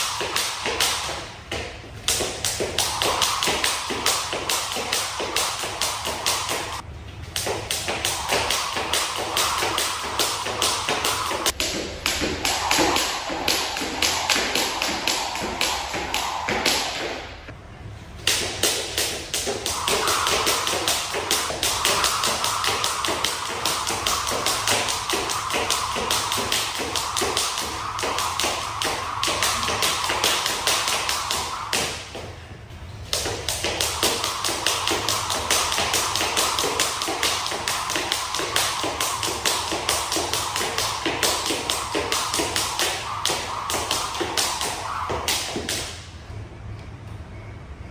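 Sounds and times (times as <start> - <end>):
jump rope slapping wooden floor: 0.0 - 17.3, 18.2 - 32.3, 33.0 - 46.0.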